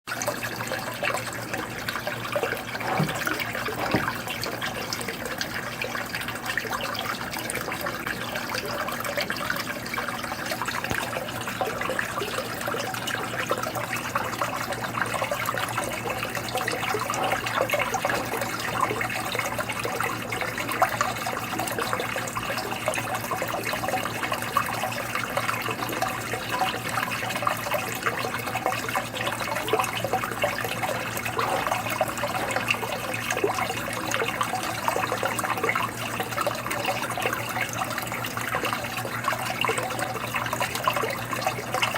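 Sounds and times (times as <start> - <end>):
aquarium water trickling: 0.1 - 41.9.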